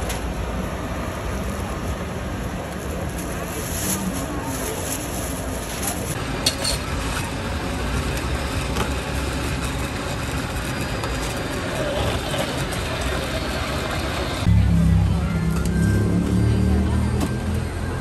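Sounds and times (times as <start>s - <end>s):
busy market background noise: 0.0s - 18.0s
faint voices: 0.7s - 6.4s, 7.0s - 18.0s.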